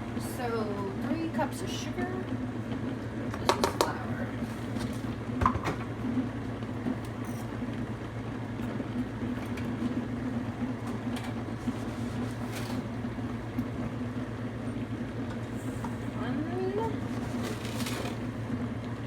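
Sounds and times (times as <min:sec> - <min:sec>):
dishwasher humming: 0:00.0 - 0:19.0.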